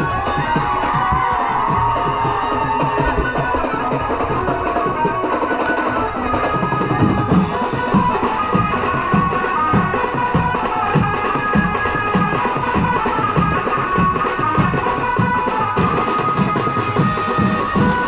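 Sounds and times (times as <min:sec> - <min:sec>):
dhol drums beating: 0:00.0 - 0:18.0.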